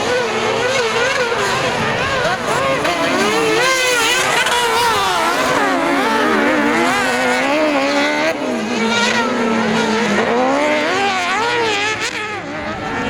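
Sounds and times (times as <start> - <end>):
buggy engines revving: 0.0 - 13.0.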